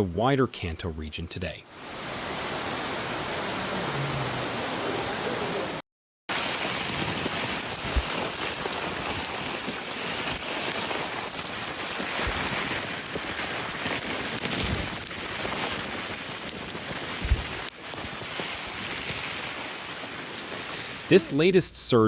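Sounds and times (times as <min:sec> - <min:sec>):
heavy rain: 0:01.7 - 0:21.6.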